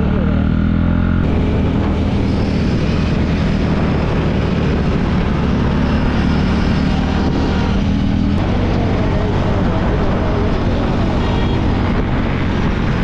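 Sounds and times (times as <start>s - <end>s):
motorcycle engine running: 0.0s - 13.0s
wind rushing over microphone: 1.2s - 13.0s.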